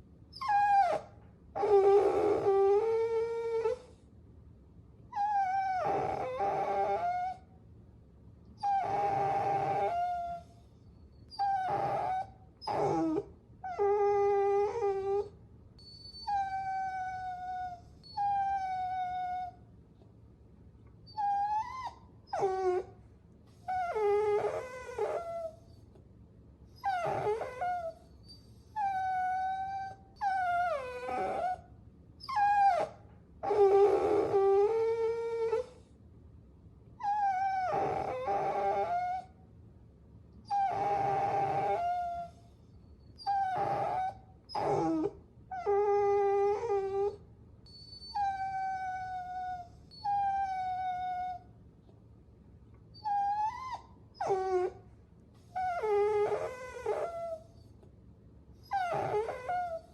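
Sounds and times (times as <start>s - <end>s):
puppies whining: 0.3s - 4.0s, 5.2s - 7.4s, 8.6s - 19.6s, 21.1s - 22.9s, 23.5s - 25.9s, 26.8s - 35.9s, 37.0s - 39.3s, 40.5s - 51.5s, 52.9s - 54.8s, 55.4s - 57.8s, 58.6s - 59.9s.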